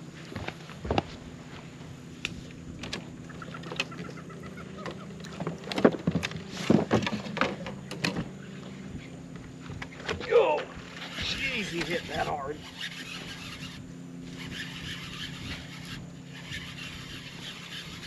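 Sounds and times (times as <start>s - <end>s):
electric trolling motor humming: 0.0s - 18.0s.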